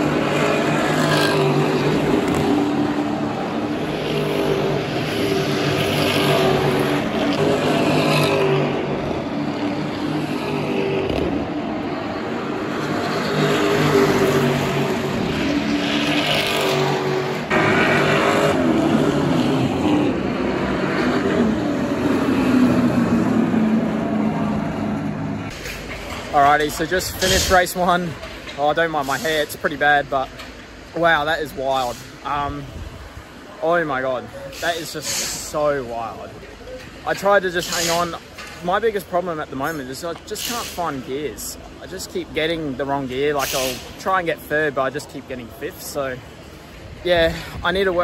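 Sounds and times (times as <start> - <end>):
race car engines rumbling: 0.0 - 48.0.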